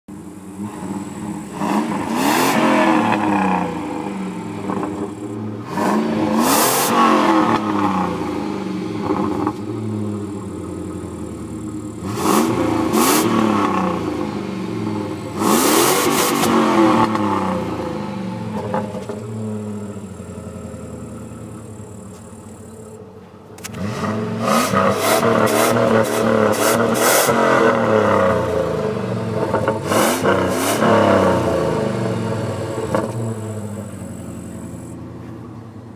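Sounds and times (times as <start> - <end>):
car engine revving: 0.1 - 35.4
car engine idling: 0.1 - 35.9.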